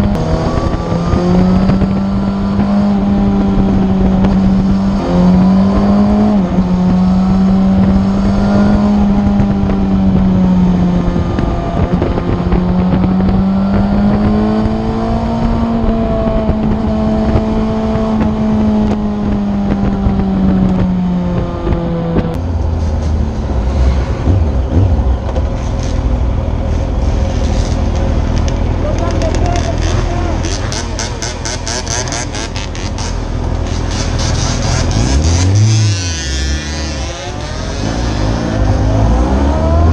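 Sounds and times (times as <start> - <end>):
wind rush: 0.0 - 36.2
lower rougher engine sound: 0.0 - 39.9
motorcycle engine and exhaust: 0.0 - 39.9.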